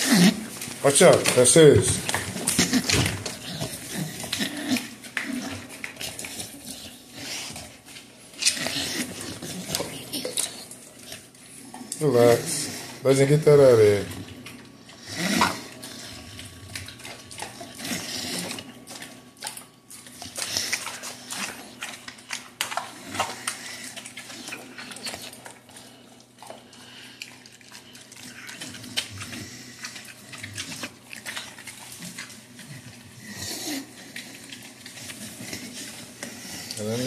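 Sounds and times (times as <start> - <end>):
dogs chewing and licking: 0.0 - 37.0.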